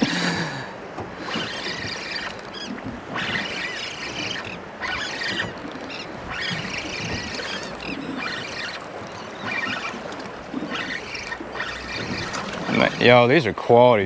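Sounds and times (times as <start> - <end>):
water lapping: 0.0 - 13.8
fishing reel squeaky whirring: 1.2 - 13.1.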